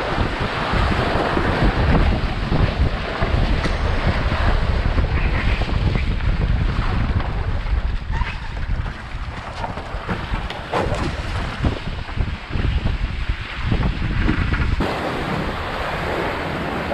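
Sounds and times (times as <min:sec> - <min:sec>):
water rushing along hulls: 0:00.0 - 0:16.9
wind buffeting microphone: 0:00.0 - 0:16.9.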